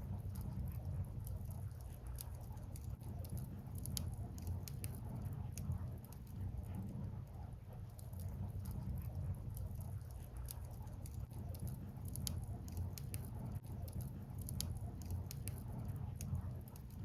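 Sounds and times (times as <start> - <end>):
firewood crackling and popping: 0.0 - 17.0
low rumble: 0.0 - 17.0.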